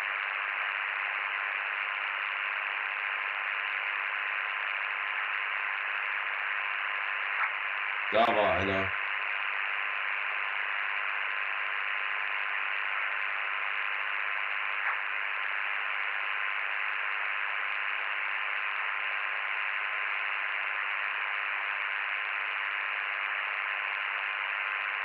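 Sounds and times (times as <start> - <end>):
radio hiss: 0.0 - 25.0.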